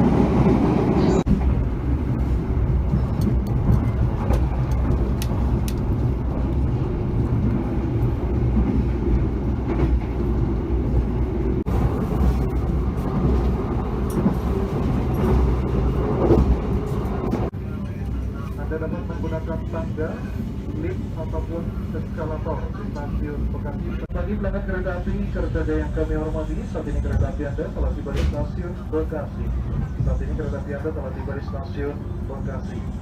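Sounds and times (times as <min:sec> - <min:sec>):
train wheels rumbling on rails: 0:00.0 - 0:19.6, 0:20.4 - 0:33.0.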